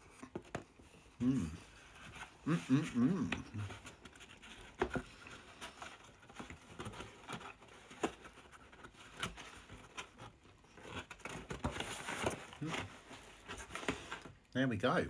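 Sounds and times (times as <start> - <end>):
cardboard box rustling: 0.2 - 14.4.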